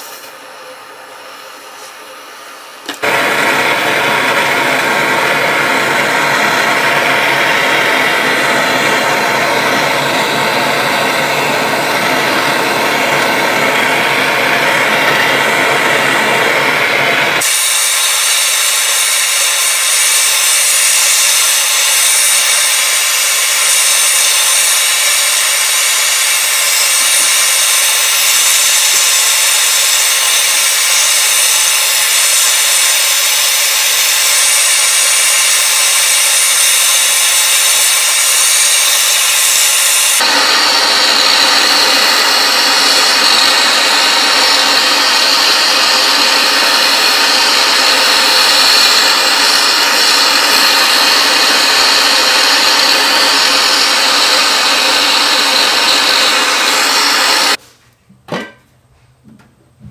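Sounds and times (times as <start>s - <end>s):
gas torch flame hissing: 0.0s - 57.6s.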